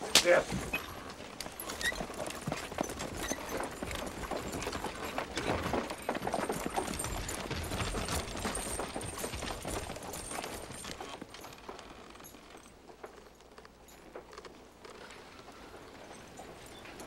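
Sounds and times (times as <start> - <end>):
horse hooves clopping: 0.0 - 17.0.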